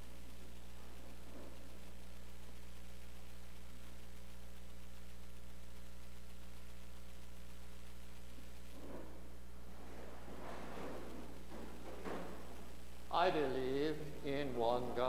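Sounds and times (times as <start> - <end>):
faint hiss: 0.0 - 15.0
low electrical mains hum: 0.0 - 15.0.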